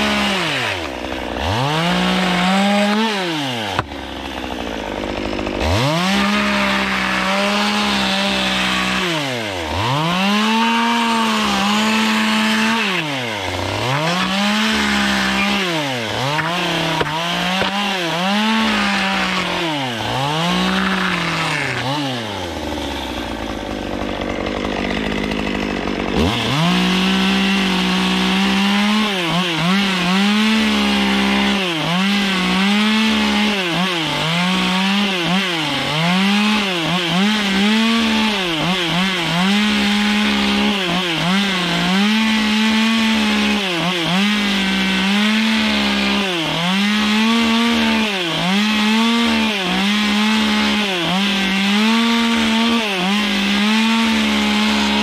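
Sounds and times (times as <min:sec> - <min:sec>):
chainsaw revving and cutting wood: 0:00.0 - 0:55.0.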